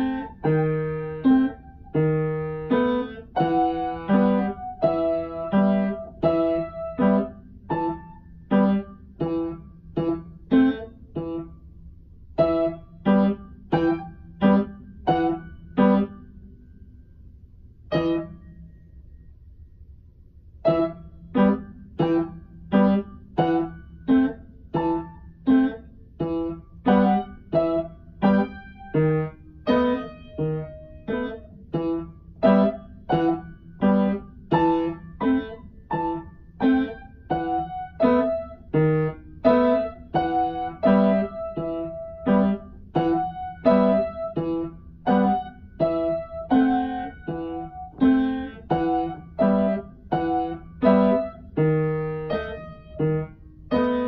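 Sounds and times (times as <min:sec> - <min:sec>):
upright piano detached chords: 0:00.0 - 0:19.1, 0:20.6 - 0:54.0.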